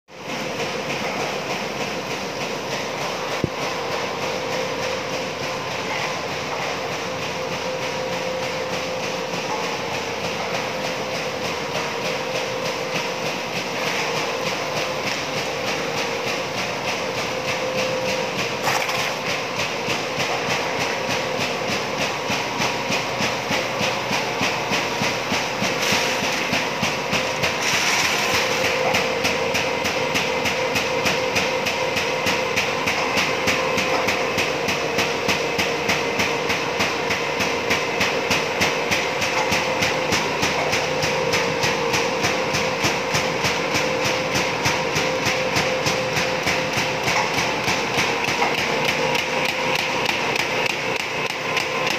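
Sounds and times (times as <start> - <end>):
steady machine tone: 0.1 - 51.9.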